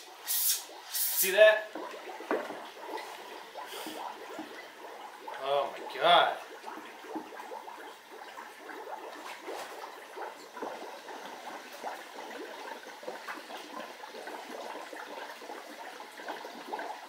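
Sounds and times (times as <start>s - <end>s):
underwater bubbling from spray can: 0.0s - 17.0s.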